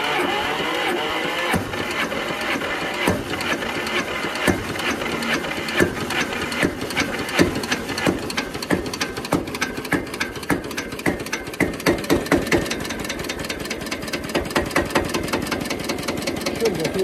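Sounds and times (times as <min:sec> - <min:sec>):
diesel engine knocking: 0:00.2 - 0:17.0.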